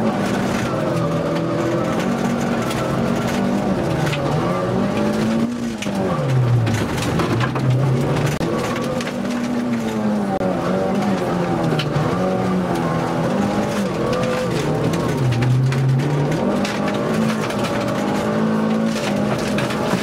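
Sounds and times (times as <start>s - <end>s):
car engine revving: 0.0s - 20.0s
gravel striking car: 0.0s - 20.0s.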